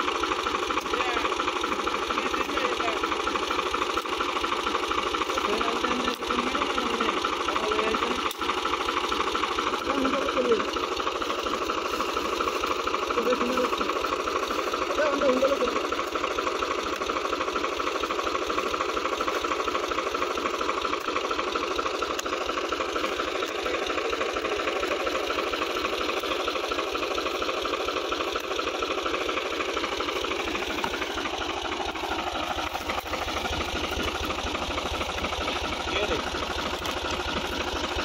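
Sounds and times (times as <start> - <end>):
tractor diesel engine idling: 0.0 - 38.0.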